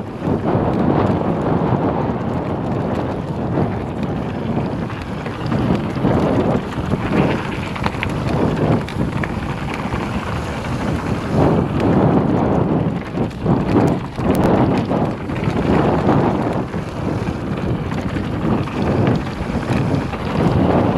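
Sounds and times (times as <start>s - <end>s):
bike rattling: 0.0s - 20.9s
bike tyres rumbling on dirt: 0.0s - 20.9s
wind rushing over microphone: 0.0s - 20.9s.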